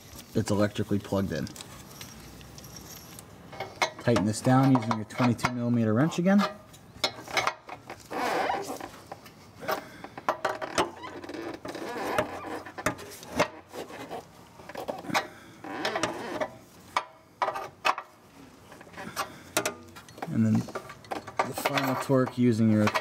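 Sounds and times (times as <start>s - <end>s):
wrench scraping: 1.4s - 23.0s.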